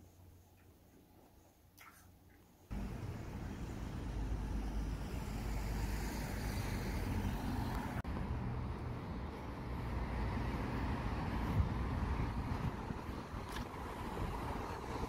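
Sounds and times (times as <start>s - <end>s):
traffic rumble: 2.7s - 15.0s.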